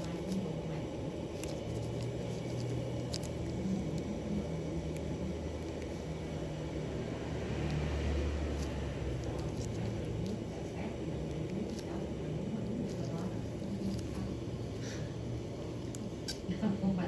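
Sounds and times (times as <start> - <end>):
low motor rumble: 0.0 - 17.0.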